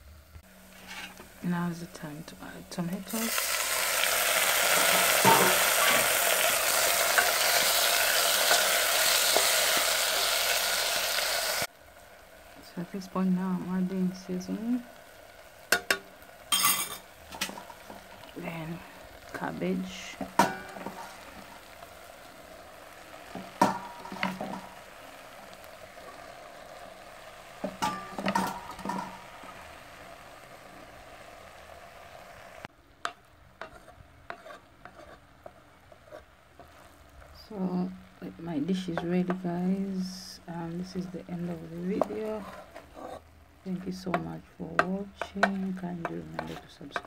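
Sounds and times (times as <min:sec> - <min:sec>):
vegetables sizzling in a pot: 0:00.0 - 0:47.0.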